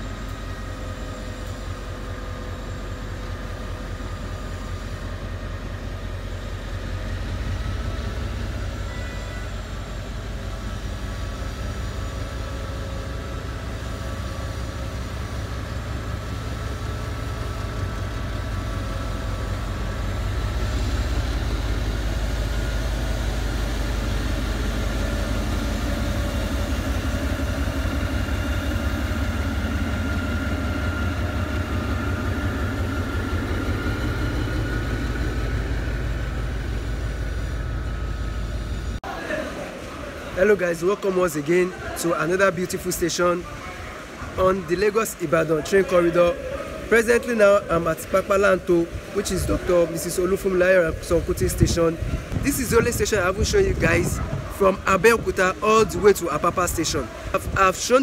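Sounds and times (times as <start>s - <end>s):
thin steady whine: 0.0s - 58.0s
train rumbling past: 0.0s - 58.0s.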